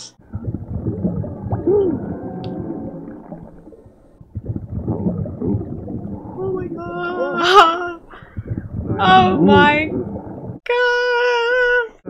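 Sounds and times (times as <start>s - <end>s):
low underwater rumble with gurgling: 0.2s - 10.6s.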